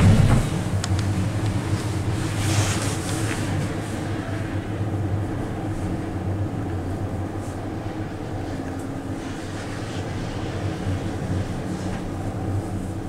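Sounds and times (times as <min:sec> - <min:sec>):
gondola cabin hum and rumble: 0:00.0 - 0:13.0.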